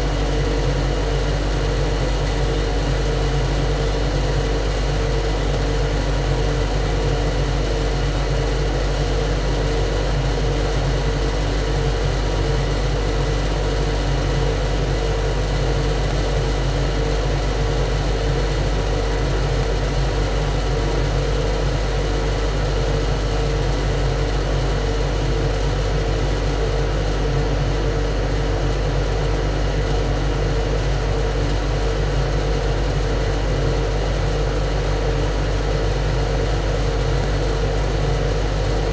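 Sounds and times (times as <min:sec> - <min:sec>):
engine room machinery droning: 0:00.0 - 0:38.9.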